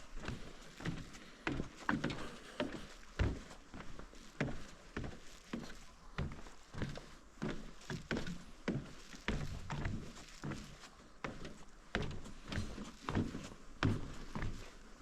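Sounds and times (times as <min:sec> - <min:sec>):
footsteps on walkway: 0:00.0 - 0:15.0.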